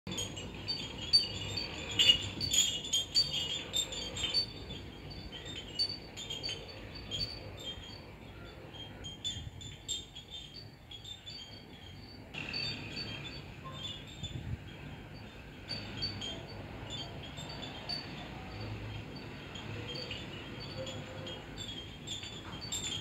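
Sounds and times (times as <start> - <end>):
pottery wind chimes ringing: 0.1 - 23.0.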